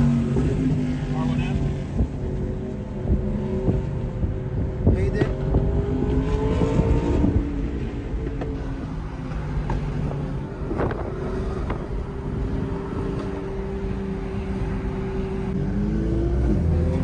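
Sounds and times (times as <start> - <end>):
car engine running: 0.0 - 15.5
road and wind noise: 0.0 - 17.0.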